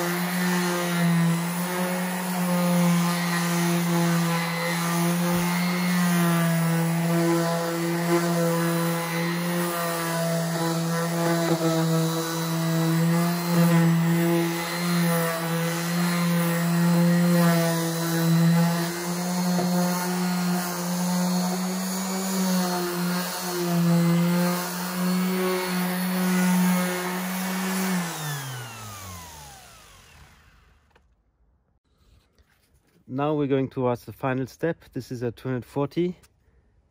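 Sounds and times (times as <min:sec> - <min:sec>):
electric sander running: 0:00.0 - 0:31.0.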